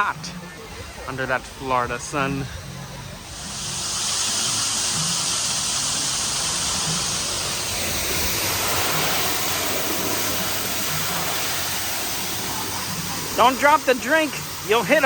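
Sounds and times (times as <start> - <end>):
rushing water hiss: 0.0 - 15.0.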